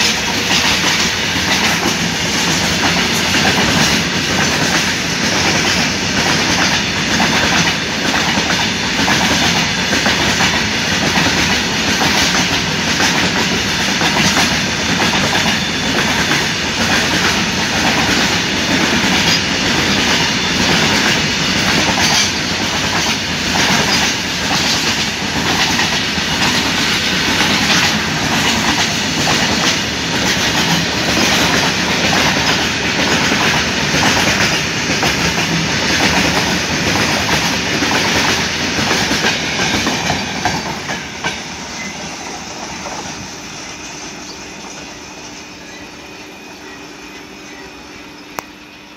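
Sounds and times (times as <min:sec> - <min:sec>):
freight train wheels rumbling: 0:00.0 - 0:48.9.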